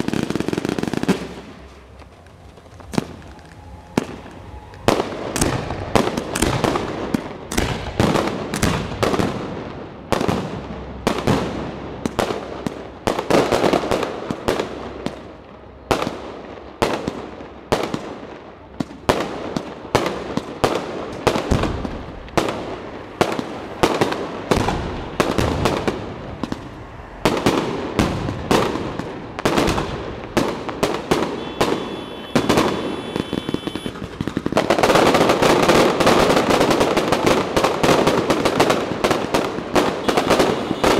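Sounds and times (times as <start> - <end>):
fireworks bursting with sharp bangs: 0.0 - 40.9
fireworks crackling: 0.0 - 40.9.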